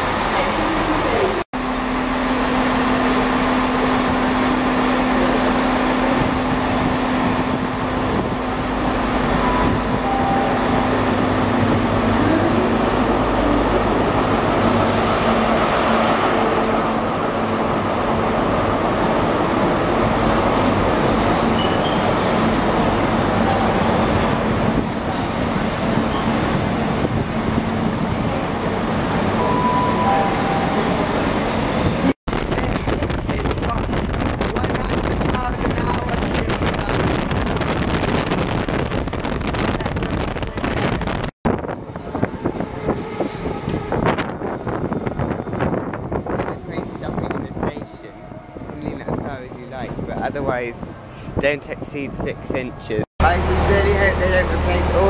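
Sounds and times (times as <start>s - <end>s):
train engine drone: 0.0s - 51.4s, 52.0s - 55.0s.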